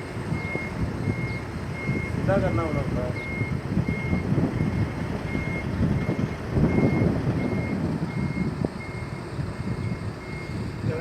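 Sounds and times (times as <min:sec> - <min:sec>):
truck engine rumble: 0:00.0 - 0:11.0
truck reversing alarm beeping: 0:00.0 - 0:11.0.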